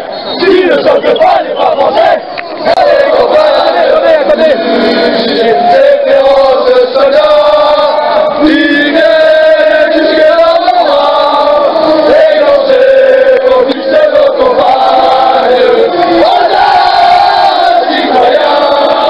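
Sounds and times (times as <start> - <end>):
football supporters chanting: 0.0 - 19.0.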